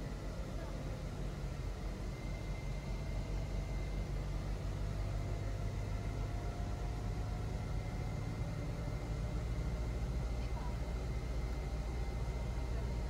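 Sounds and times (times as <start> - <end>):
low mechanical rumble and hum: 0.0 - 13.0.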